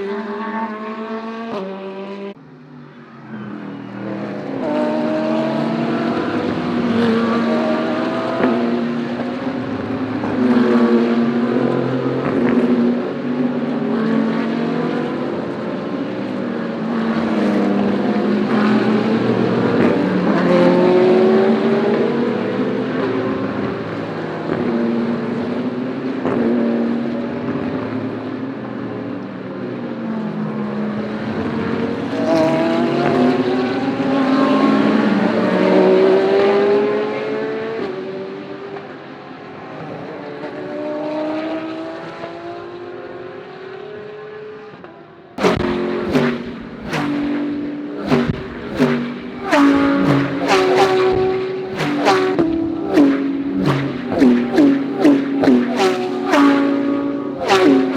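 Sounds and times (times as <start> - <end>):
race car engines at full pace: 0.0 - 57.9.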